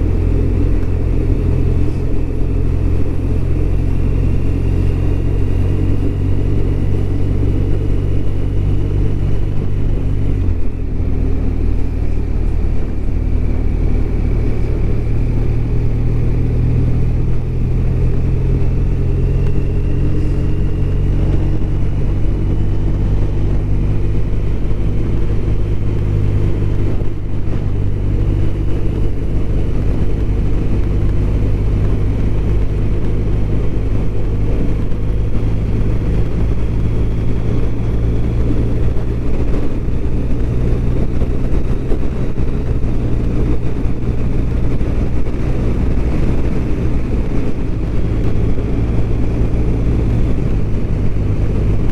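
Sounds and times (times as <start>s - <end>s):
motorcycle engine droning: 0.0s - 51.9s.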